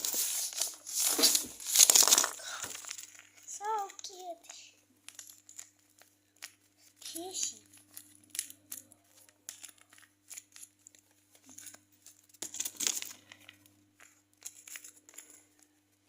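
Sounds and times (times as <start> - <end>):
packaging crinkling and tearing: 0.0 - 4.2, 5.1 - 15.8.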